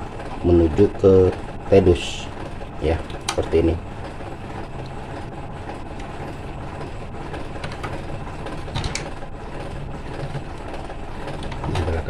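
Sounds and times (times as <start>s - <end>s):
background rumble and hiss: 0.0s - 12.0s.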